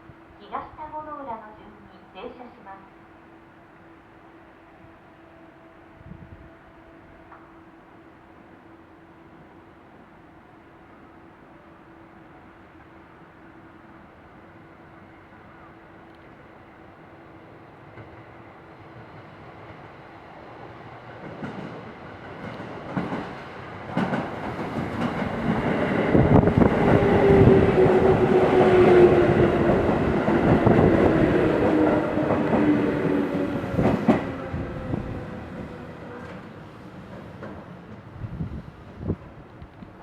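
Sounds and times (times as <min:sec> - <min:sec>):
electric train passing: 0:01.0 - 0:40.0.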